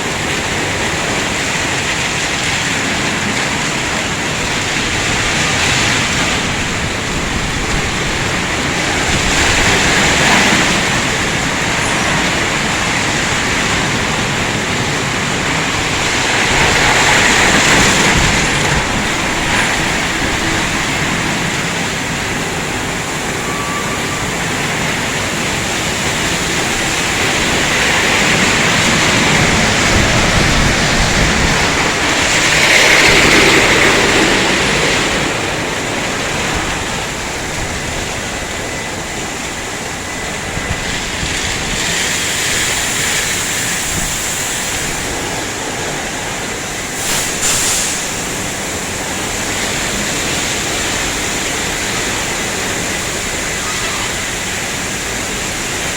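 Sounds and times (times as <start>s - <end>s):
car wash water spray and machinery: 0.0s - 55.9s.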